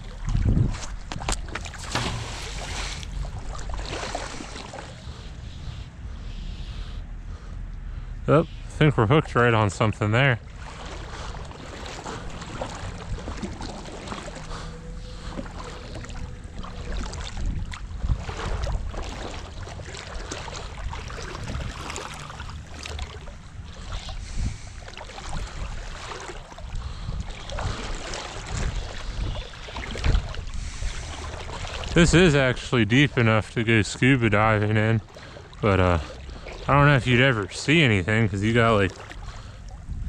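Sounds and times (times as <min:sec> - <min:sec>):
water splashing and dripping: 0:00.0 - 0:05.2, 0:09.7 - 0:24.2, 0:24.8 - 0:39.5
wind rumble on microphone: 0:00.0 - 0:35.0, 0:35.6 - 0:40.0.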